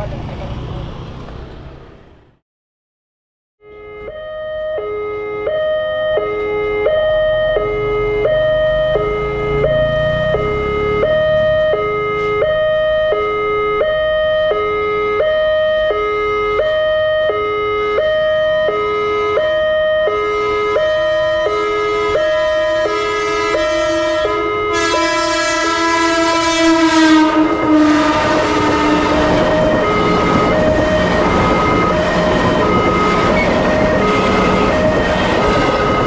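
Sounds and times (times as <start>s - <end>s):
two-tone crossing siren: 3.6s - 36.0s.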